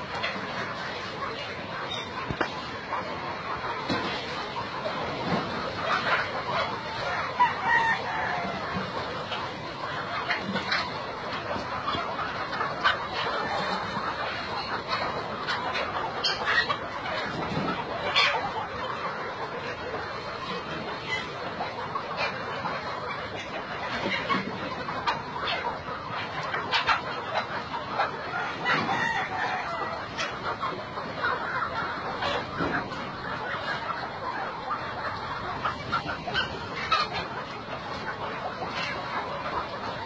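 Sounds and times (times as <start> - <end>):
flock of chickens clucking: 0.0 - 40.0.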